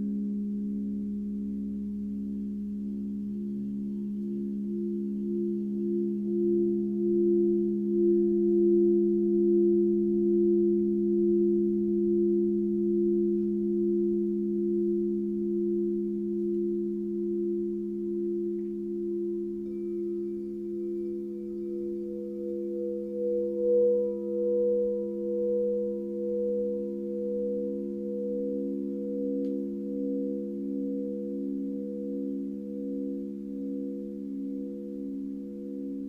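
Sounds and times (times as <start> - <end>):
singing bowls ringing: 0.0 - 36.0.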